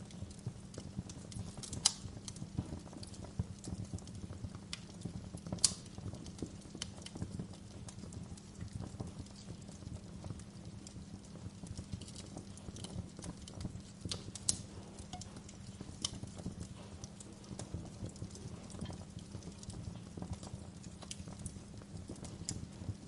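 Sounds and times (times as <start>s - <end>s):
fire popping and snapping: 0.0s - 23.0s
fire rumbling in a fireplace: 0.0s - 23.0s.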